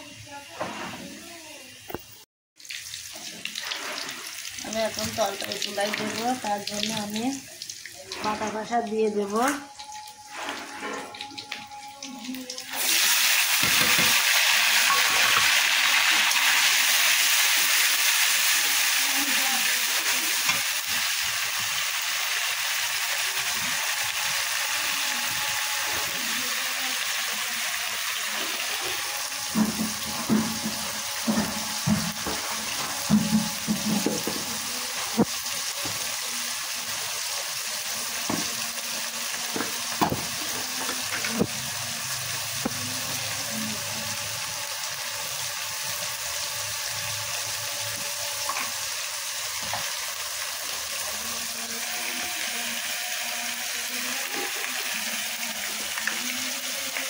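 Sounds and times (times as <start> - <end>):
spice paste sizzling in hot oil: 1.2 - 10.7, 12.4 - 57.0.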